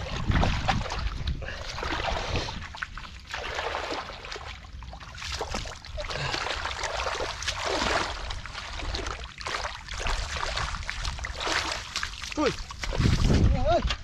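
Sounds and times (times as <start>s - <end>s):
hands splashing through muddy water: 0.0s - 14.0s.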